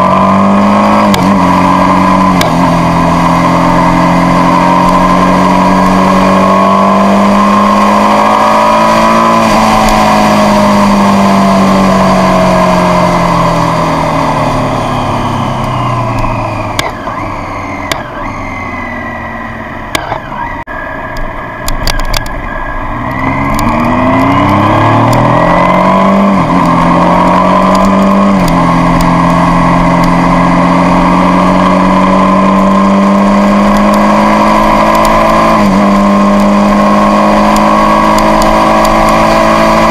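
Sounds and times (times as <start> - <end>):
motorcycle engine revving: 0.0 - 20.6, 21.8 - 39.9.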